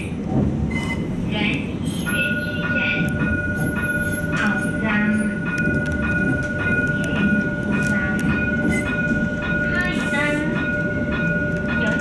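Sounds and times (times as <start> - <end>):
tram rumbling with high whine: 0.0 - 12.0.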